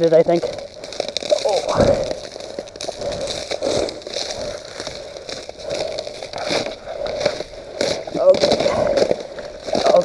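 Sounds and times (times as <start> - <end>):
thin ice crunching and crackling: 0.0 - 10.0
scraping on ice: 0.4 - 10.0.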